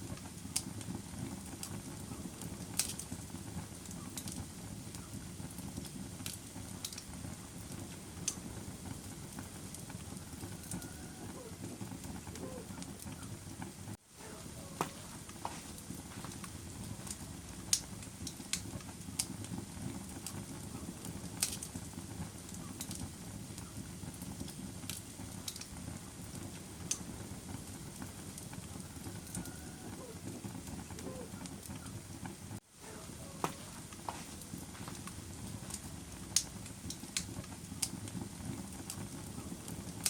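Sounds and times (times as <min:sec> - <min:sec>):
fire crackling and popping: 0:00.0 - 0:40.0
wood fire burning: 0:00.0 - 0:40.0.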